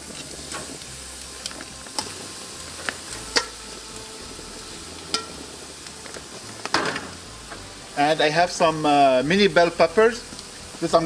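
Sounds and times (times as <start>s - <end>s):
chicken sizzling on a grill: 0.0s - 11.0s.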